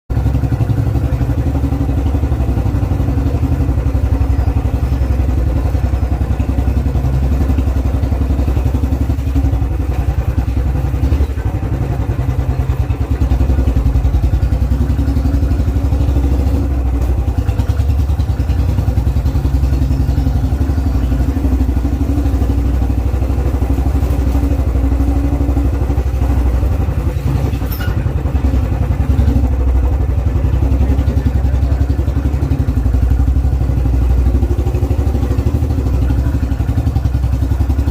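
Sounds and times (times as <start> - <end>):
motorcycle engine thumping: 0.1 - 37.9.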